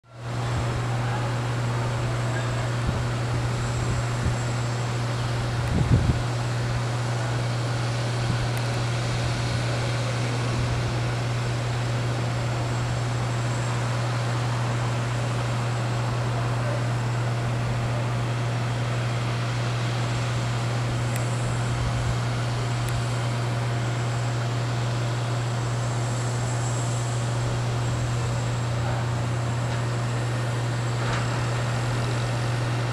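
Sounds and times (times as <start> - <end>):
parked aircraft low drone: 0.0 - 32.9.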